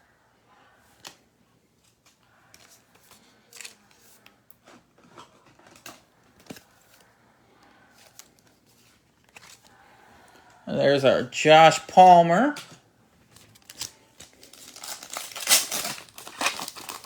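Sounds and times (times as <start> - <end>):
cards and packaging rustling: 1.8 - 9.9, 10.7 - 17.0.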